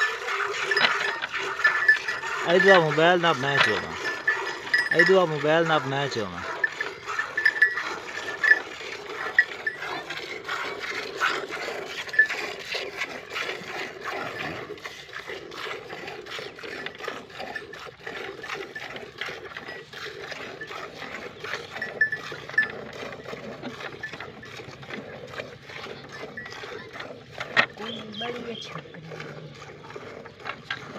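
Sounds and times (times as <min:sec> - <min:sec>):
milk squirting into a metal bucket: 0:00.0 - 0:30.9.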